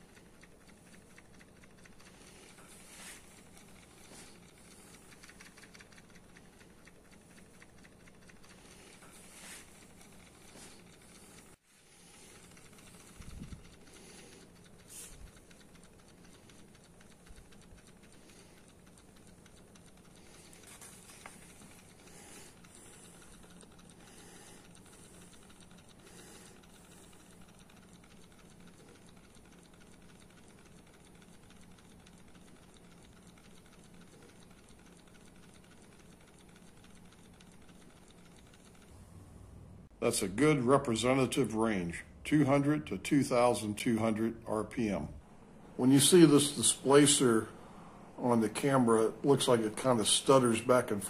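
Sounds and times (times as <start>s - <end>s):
small engine clicking and rattling: 0.0s - 39.0s, 45.8s - 51.0s.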